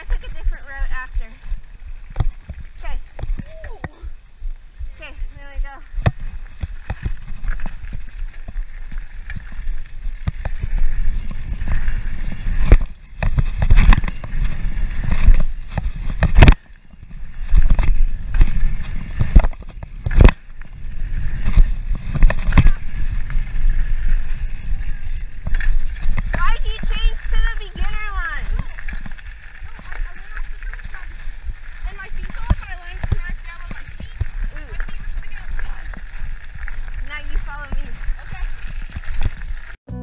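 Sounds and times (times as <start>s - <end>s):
bike rattling and knocking: 0.0s - 4.2s, 4.8s - 39.8s
bike tyres rumbling on gravel: 0.0s - 39.8s.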